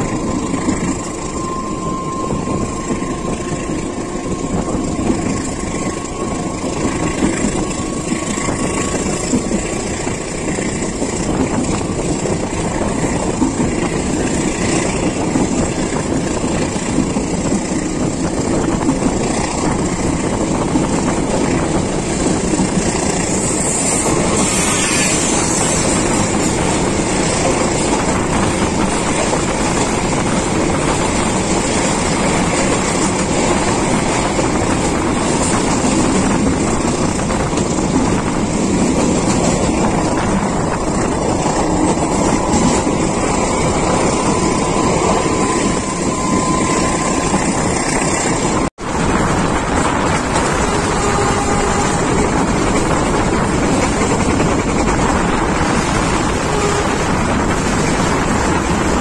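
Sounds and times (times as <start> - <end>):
freight train passing alongside: 0.0 - 59.0
train wheels rumbling on rails: 0.0 - 59.0.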